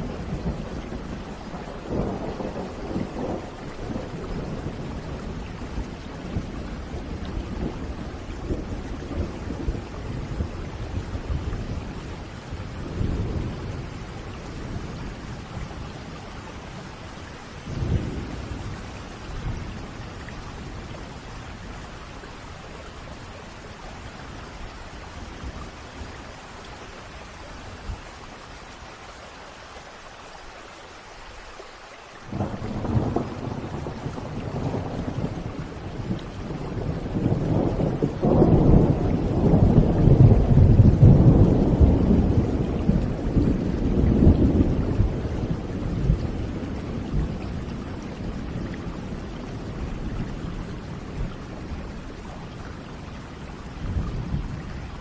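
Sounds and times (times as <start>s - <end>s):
rolling thunder: 0.0s - 22.0s, 32.3s - 55.0s
steady rain: 0.0s - 55.0s.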